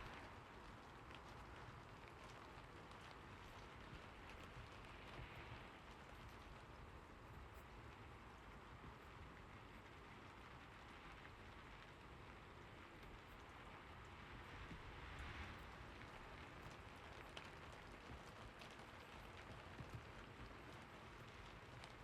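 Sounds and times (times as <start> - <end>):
faint steady rain: 0.0 - 22.0.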